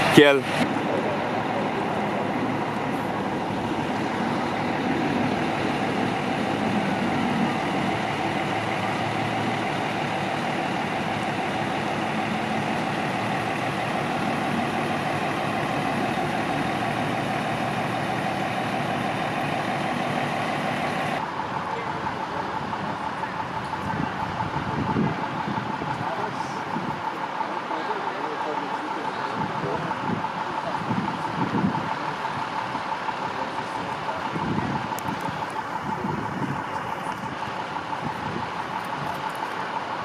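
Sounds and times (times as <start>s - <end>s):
constant high tone: 0.0s - 40.0s
engines idling: 0.0s - 40.0s.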